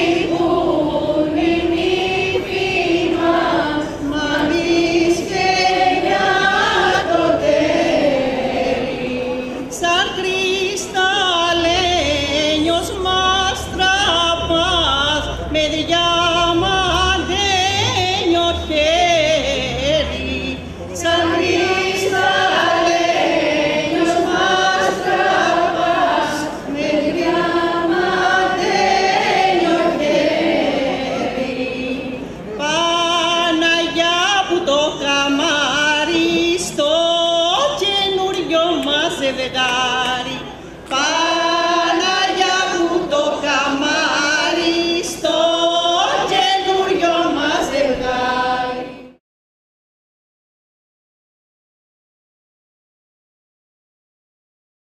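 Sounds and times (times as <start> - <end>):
group singing long held notes: 0.0 - 49.2.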